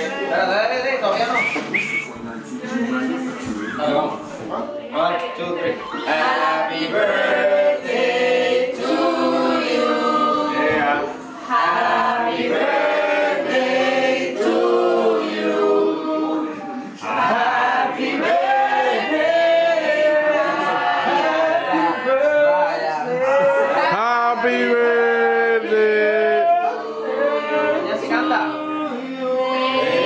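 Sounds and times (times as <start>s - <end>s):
people singing a birthday tune together: 4.2s - 30.0s.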